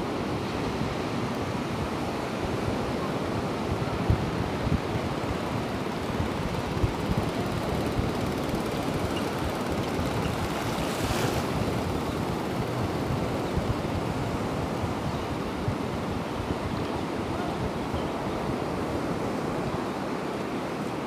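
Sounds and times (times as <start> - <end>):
small waves washing on sand: 0.0 - 21.0
wind buffeting microphone: 0.4 - 19.8.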